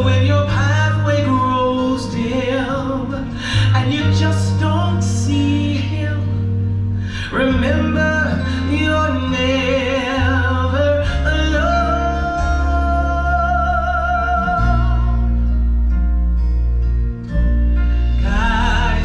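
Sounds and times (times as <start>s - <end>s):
gospel song with singer: 0.0s - 16.2s, 17.7s - 19.0s
steady bass: 0.0s - 19.0s.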